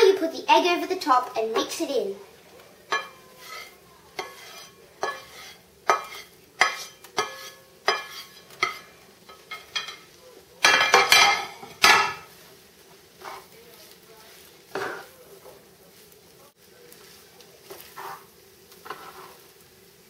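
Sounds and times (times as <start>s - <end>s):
utensil scraping a frying pan: 2.8s - 19.9s.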